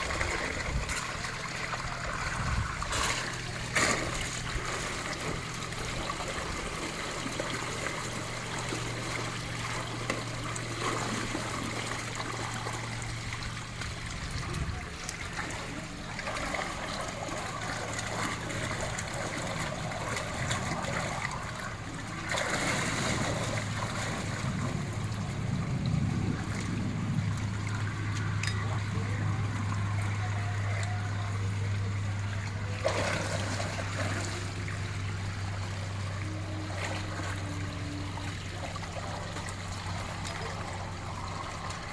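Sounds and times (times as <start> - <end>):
low hum: 0.0 - 41.9
water trickling from pipe: 0.0 - 41.9.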